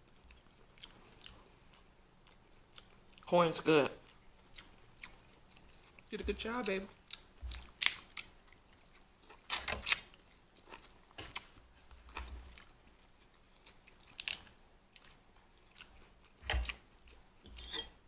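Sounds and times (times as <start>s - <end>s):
close chewing and eating: 0.0s - 18.0s.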